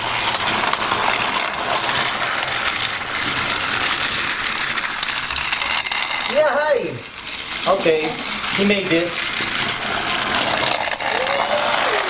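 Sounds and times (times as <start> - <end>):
toy train motor whirring: 0.0 - 12.0.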